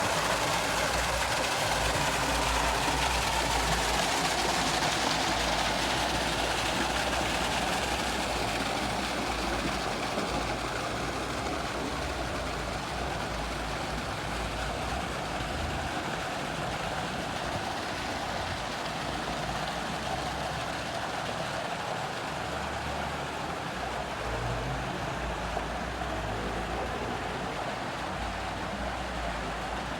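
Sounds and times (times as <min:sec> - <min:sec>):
waterfall splashing into pool: 0:00.0 - 0:29.9.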